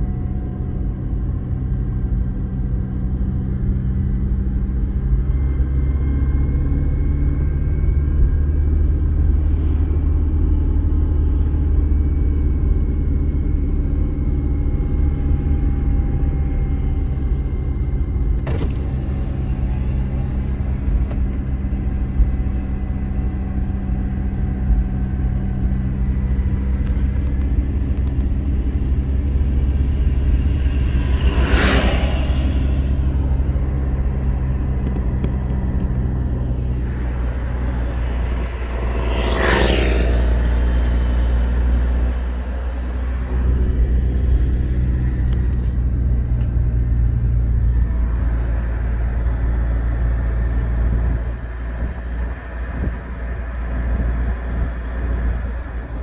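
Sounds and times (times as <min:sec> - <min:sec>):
car engine and tyre rumble: 0:00.0 - 0:56.0
faint whine: 0:00.0 - 0:56.0.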